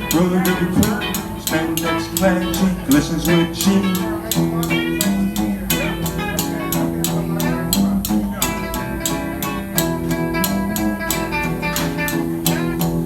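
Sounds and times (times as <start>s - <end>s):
bass: 0.0s - 13.0s
rockabilly guitar: 0.0s - 13.0s
steady drum beat: 0.0s - 13.0s.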